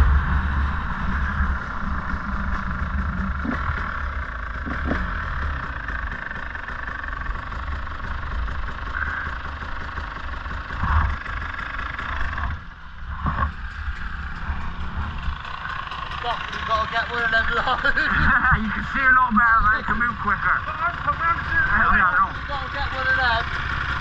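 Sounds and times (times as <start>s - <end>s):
dirt bike motor running: 0.0s - 24.0s.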